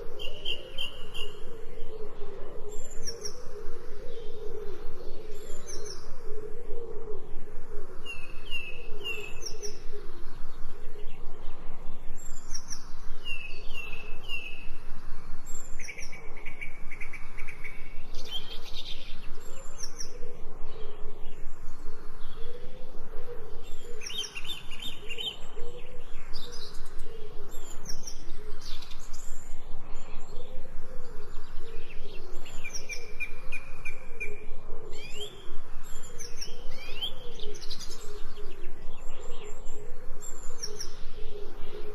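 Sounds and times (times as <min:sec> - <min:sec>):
birds chirping and trilling: 0:00.0 - 0:41.9
low wavering cooing calls: 0:00.0 - 0:41.9.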